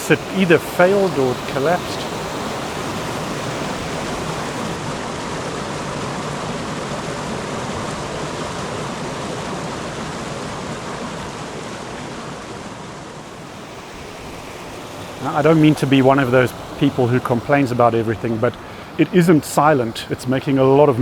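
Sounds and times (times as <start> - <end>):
water rushing over dam: 0.0 - 12.5, 13.3 - 21.0.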